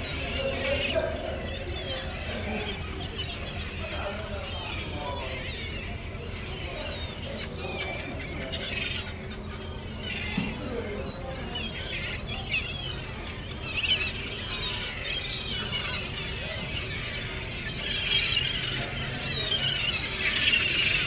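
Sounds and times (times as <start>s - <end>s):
gulls calling: 0.0s - 21.0s.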